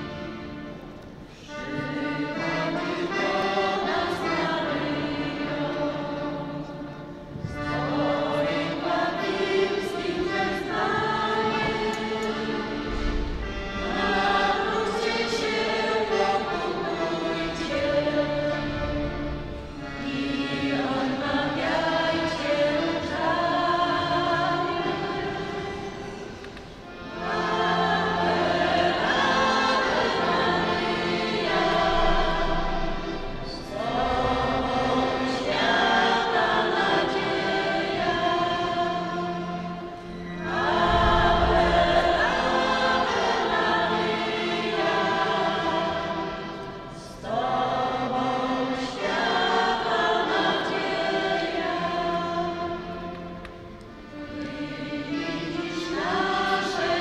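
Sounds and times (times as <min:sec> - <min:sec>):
accordion: 0:00.0 - 0:57.0
women's vocal group singing: 0:01.4 - 0:19.1, 0:19.9 - 0:57.0.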